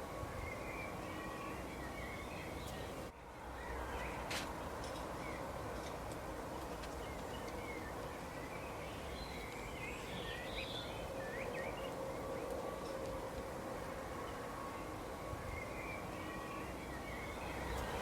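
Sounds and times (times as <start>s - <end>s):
outdoor background hiss: 0.0s - 18.0s
songbirds chirping: 0.0s - 18.0s.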